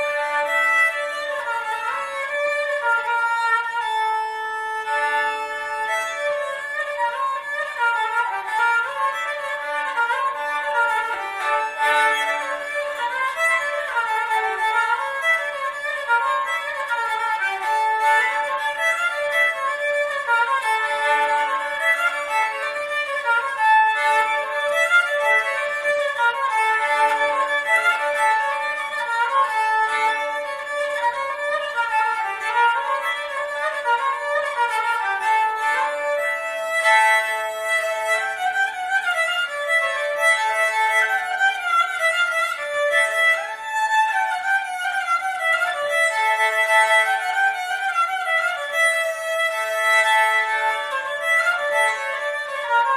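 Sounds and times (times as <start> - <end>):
bowed lyra melody: 0.0 - 52.9.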